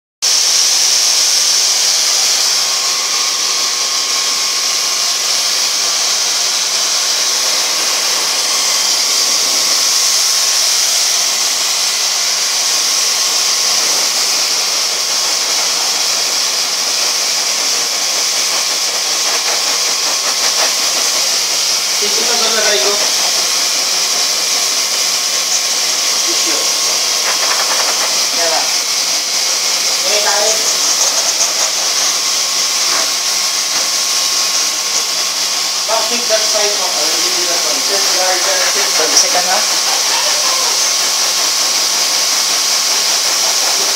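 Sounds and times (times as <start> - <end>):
hair dryer blowing: 0.2 - 43.9.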